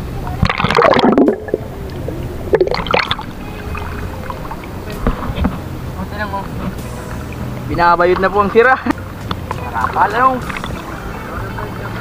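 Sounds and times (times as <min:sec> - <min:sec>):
steady low rumble: 0:00.0 - 0:11.9
water splashing around boat: 0:00.0 - 0:12.0.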